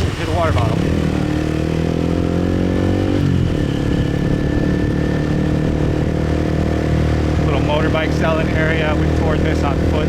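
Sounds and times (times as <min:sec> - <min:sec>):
motorbike engine riding: 0:00.0 - 0:10.0.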